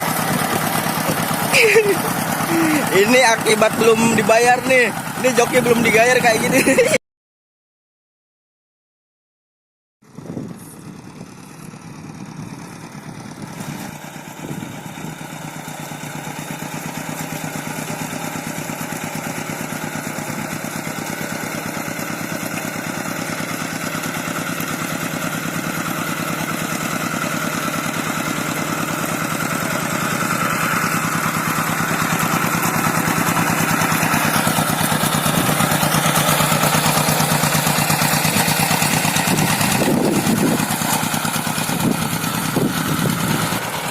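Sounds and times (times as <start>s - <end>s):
tractor engine running: 0.0s - 6.9s, 10.1s - 43.9s.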